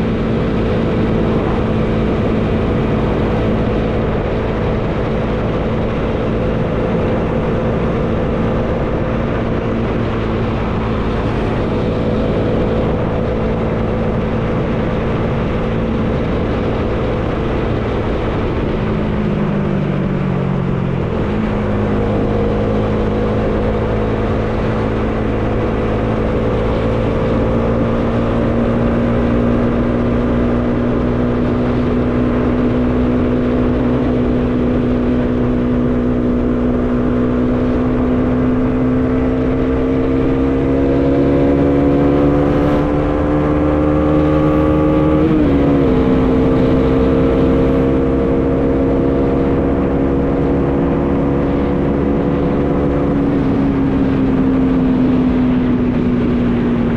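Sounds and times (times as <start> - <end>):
wind rushing: 0.0 - 36.6, 37.4 - 54.5
motorcycle engine running: 0.0 - 56.9.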